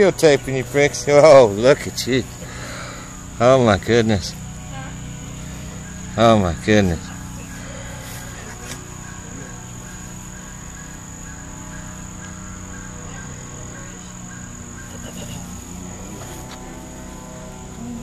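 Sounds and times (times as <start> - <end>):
insects chirring: 0.0 - 18.0
low hum: 0.0 - 18.0.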